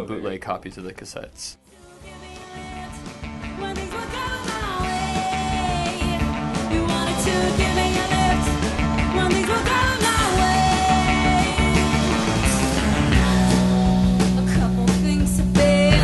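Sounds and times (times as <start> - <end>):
rock music with singing: 1.6 - 16.0.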